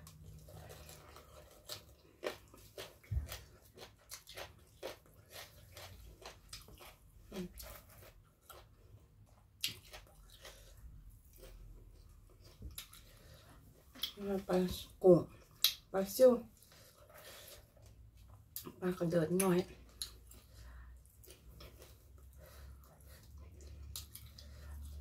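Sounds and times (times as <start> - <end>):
person chewing and crunching food: 0.0 - 25.0.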